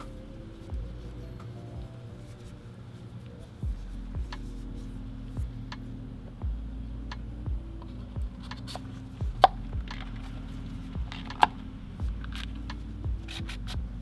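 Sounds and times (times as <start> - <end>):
music with low notes and deep beat: 0.0 - 14.0.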